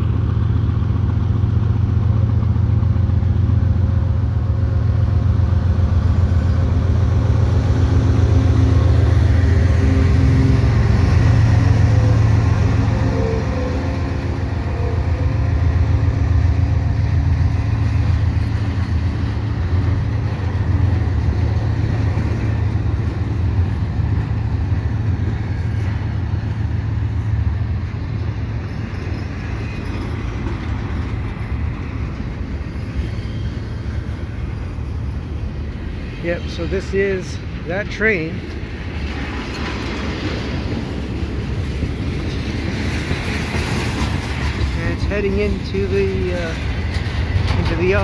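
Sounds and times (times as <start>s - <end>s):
diesel locomotive engine: 0.0s - 48.0s
freight cars rumbling over rails: 0.0s - 48.0s.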